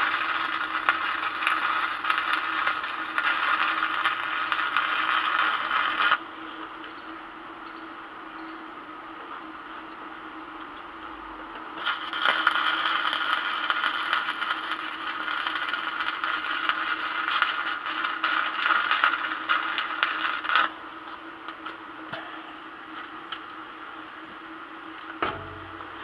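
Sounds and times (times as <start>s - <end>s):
welding arc crackling: 0.0s - 7.4s, 10.6s - 26.0s
low hum: 0.0s - 26.0s.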